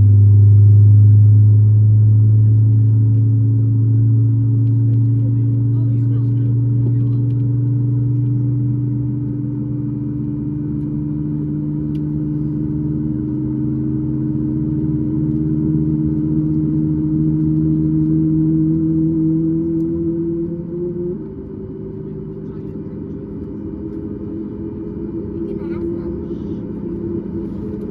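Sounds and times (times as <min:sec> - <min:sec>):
jet engine cabin drone: 0:00.0 - 0:27.9.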